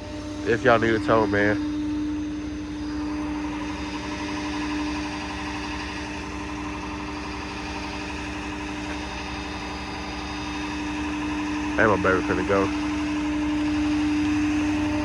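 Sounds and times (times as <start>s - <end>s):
constant droning tone: 0.0s - 15.0s
vehicle engine idling: 0.0s - 15.0s.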